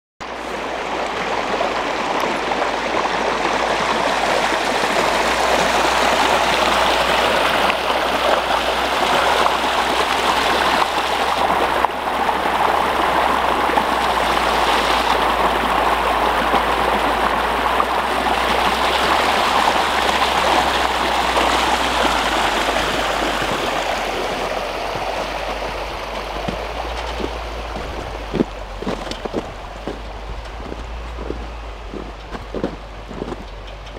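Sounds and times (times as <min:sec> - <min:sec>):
water flowing across a track: 0:00.2 - 0:33.9.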